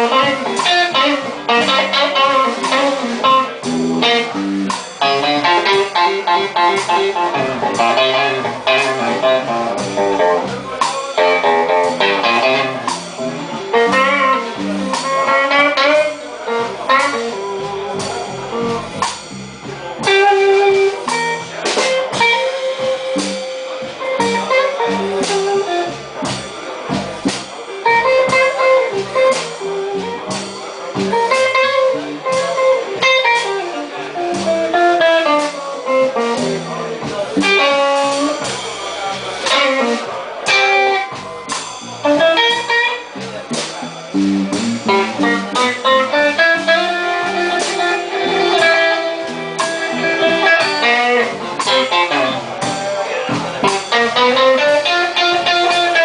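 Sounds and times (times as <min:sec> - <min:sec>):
bass: 0:00.0 - 0:56.0
drums: 0:00.0 - 0:56.0
electric guitar solo: 0:00.0 - 0:56.0.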